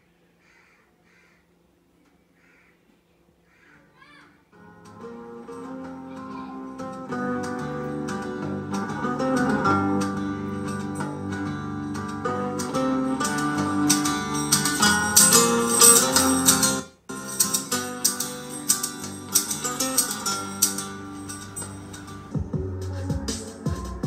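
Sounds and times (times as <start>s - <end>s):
guitar music through speakers: 4.5s - 24.0s.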